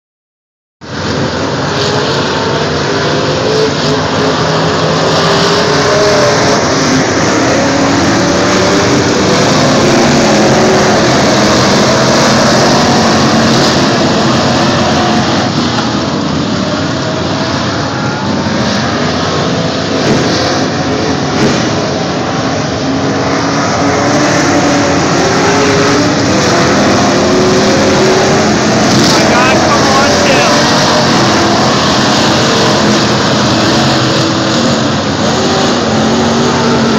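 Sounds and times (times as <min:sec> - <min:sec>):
race car engines roaring: 0:00.8 - 0:36.9.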